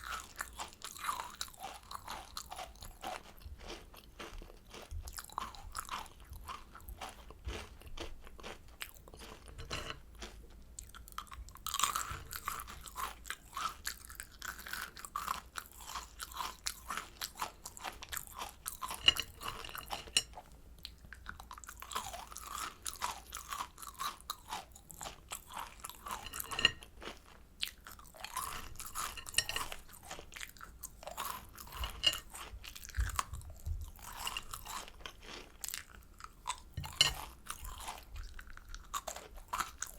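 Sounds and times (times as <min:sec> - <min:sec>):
crunchy candy chewing: 0:00.0 - 0:39.9.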